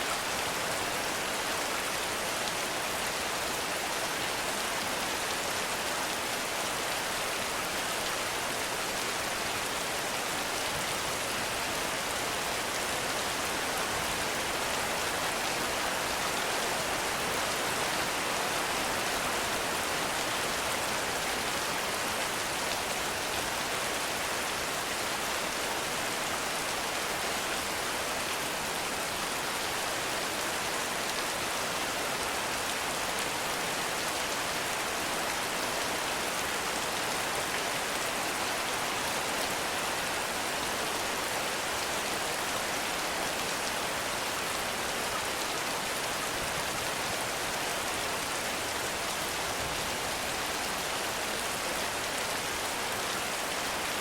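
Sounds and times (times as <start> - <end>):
heavy rain falling in forest: 0.0 - 54.0.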